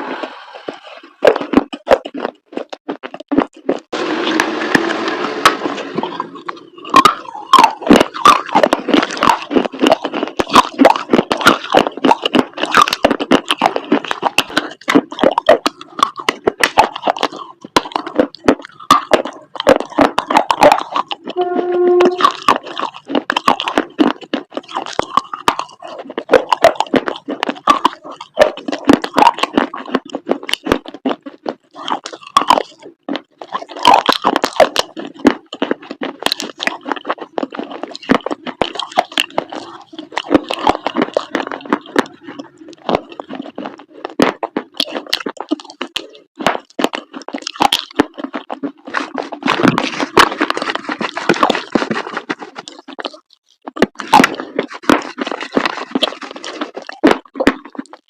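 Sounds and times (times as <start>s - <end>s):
chewing crunchy paste: 0.0s - 58.0s.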